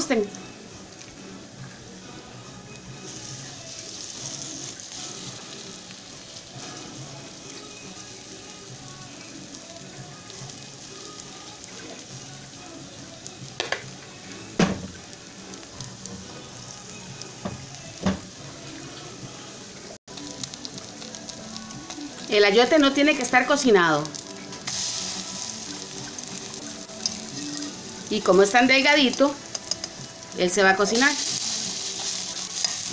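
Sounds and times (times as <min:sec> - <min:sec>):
oil sizzling in frying pan: 0:00.0 - 0:32.9.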